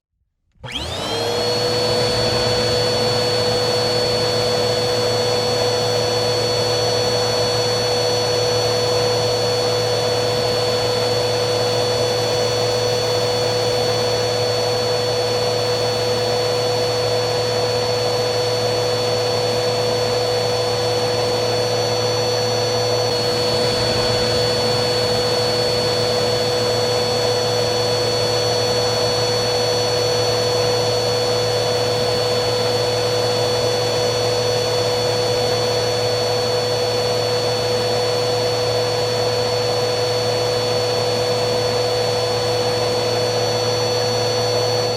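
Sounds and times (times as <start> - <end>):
vacuum cleaner motor running: 0.5 - 44.9.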